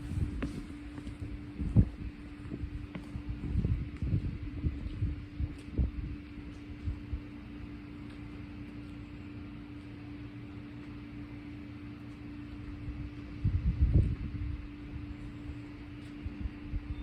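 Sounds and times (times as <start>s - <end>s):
pressure washer engine humming: 0.0s - 16.7s.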